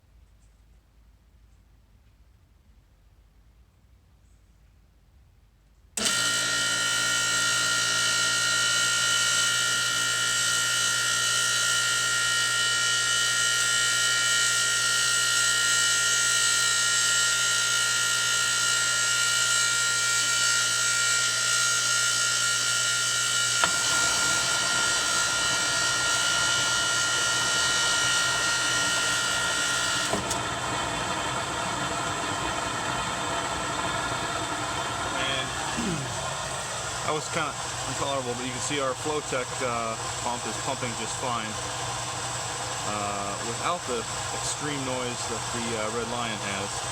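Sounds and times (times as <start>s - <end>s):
water pump whining: 6.0s - 46.9s.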